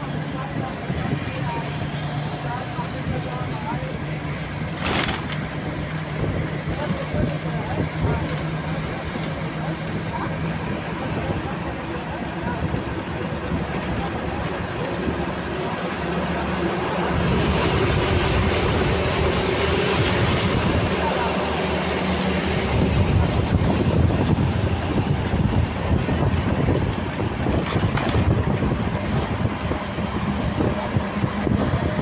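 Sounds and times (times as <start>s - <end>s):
passing traffic: 0.0s - 32.0s.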